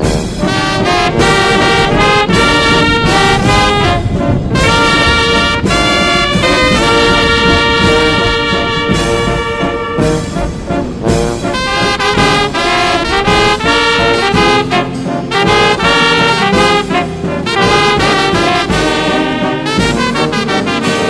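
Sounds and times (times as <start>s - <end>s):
brass band music: 0.0s - 21.0s.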